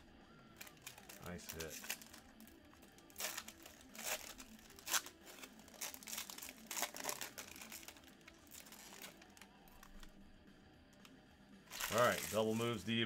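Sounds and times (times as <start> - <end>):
foil pack tearing and crinkling: 0.5 - 10.1, 11.7 - 12.8.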